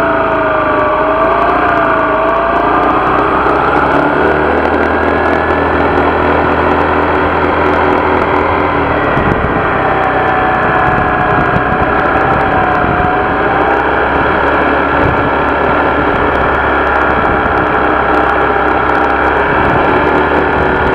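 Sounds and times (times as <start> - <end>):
scooter engine running: 0.0 - 20.9.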